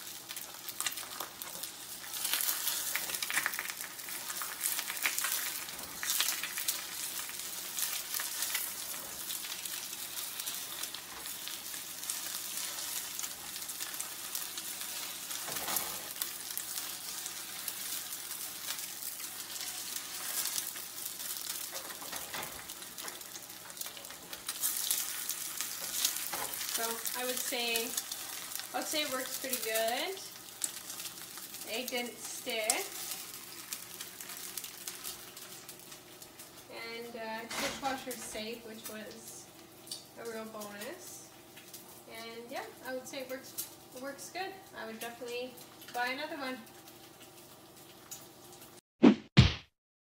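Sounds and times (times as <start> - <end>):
egg sizzling in a frying pan: 0.0 - 48.8.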